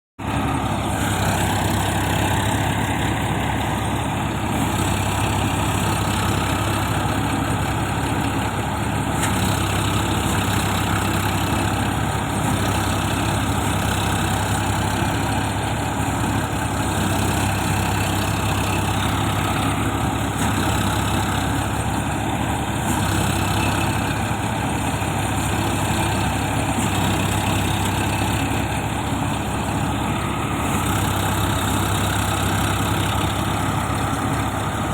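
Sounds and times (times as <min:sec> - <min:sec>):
tractor diesel engine idling: 0:00.2 - 0:34.9.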